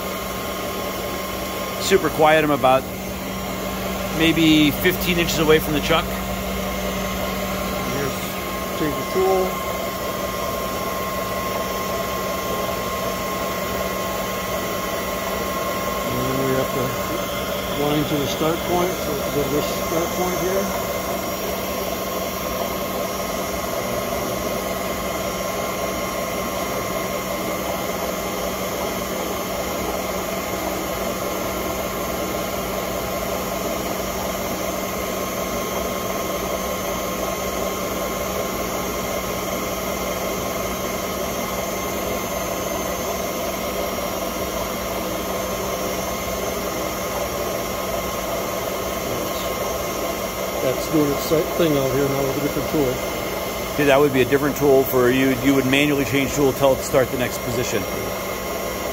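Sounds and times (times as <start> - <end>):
lathe drone with whining tones: 0.0 - 58.9.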